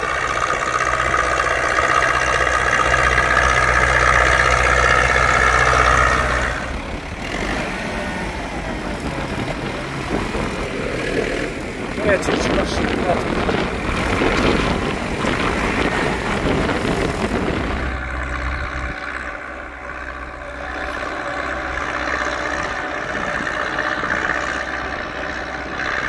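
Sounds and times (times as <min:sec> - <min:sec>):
rushing noise: 0:00.0 - 0:26.0
tractor diesel engine running: 0:00.0 - 0:26.0.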